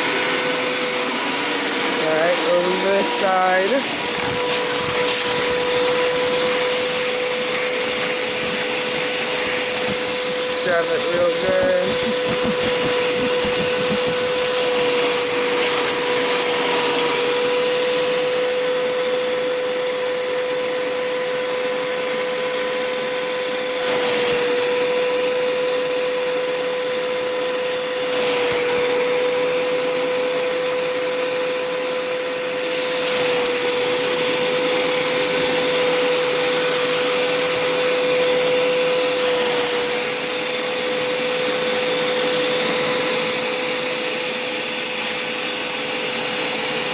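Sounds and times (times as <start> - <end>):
carpet cleaner suction whine: 0.0 - 46.9.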